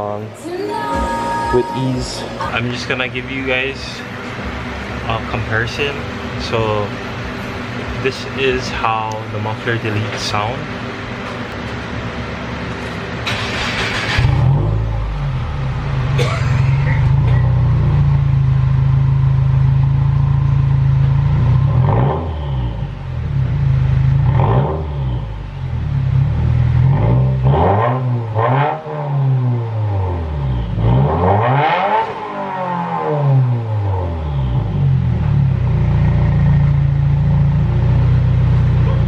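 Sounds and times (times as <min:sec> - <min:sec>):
car engine idling and revving: 0:02.5 - 0:39.0.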